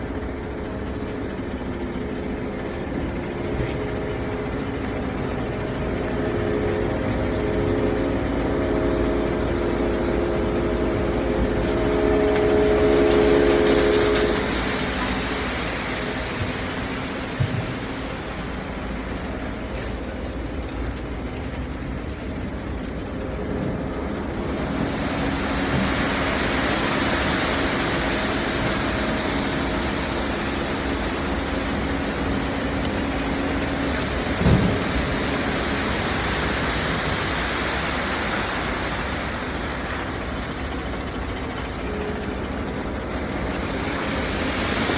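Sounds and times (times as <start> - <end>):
machinery engine running: 0.0 - 44.9.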